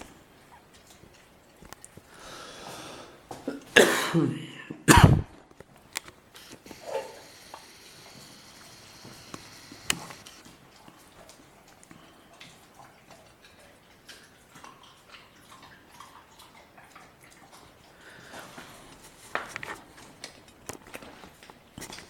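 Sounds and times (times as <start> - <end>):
puppy chewing food: 0.0 - 2.8, 5.6 - 22.0.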